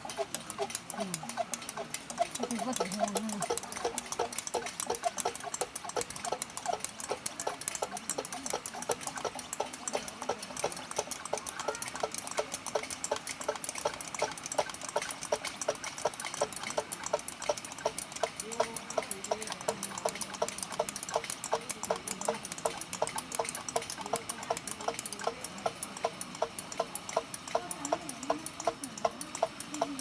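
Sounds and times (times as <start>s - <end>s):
lantern hand pump strokes: 0.0s - 30.0s.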